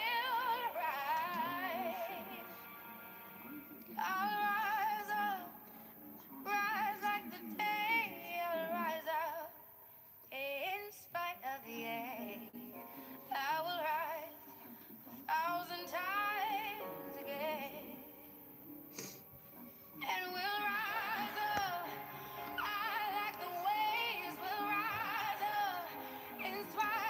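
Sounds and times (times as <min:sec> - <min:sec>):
pop song with female vocals: 0:00.0 - 0:09.6, 0:10.3 - 0:18.4, 0:20.0 - 0:27.0.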